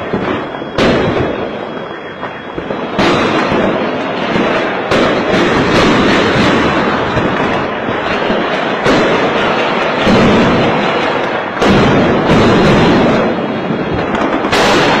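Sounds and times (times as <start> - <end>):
fireworks crackling: 0.0 - 15.0
heavy firework booms: 0.0 - 15.0.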